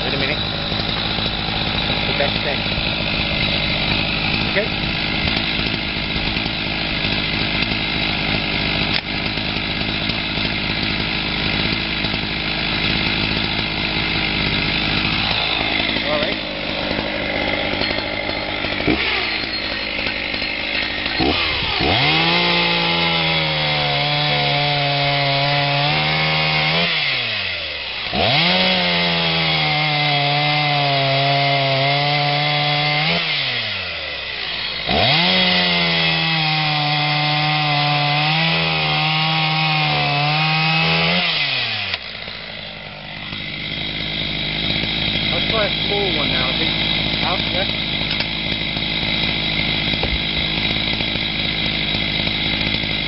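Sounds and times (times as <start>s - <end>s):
chainsaw sawing log: 0.0s - 53.0s.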